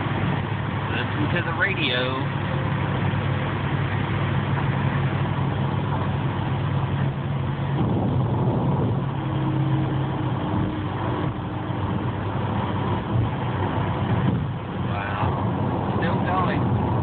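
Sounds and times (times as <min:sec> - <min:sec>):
low engine hum: 0:00.0 - 0:17.0
road and wind noise in car: 0:00.0 - 0:17.0.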